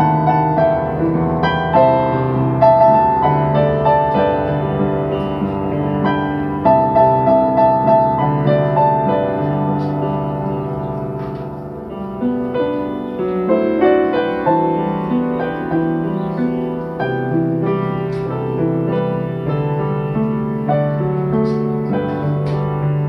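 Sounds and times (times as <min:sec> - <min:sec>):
solo piano playing: 0:00.0 - 0:23.0.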